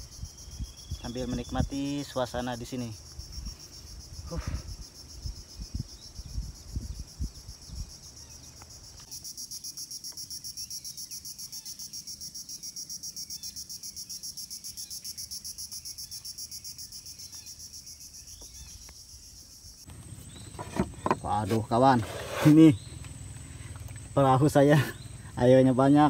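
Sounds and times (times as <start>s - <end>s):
insects pulsing trill: 0.0s - 26.0s.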